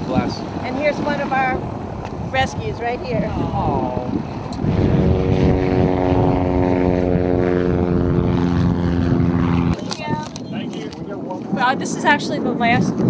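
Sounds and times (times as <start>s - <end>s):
propeller airplane flying past: 0.0s - 13.0s.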